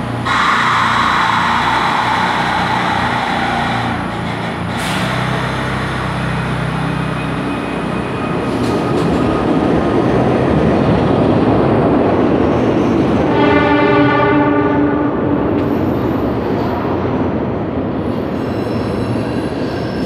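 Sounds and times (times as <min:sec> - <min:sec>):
subway train pulling out: 0:00.0 - 0:20.0.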